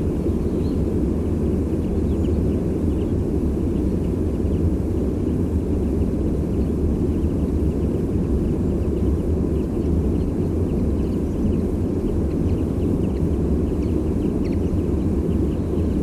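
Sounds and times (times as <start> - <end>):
songbird calls: 0.0 - 16.0.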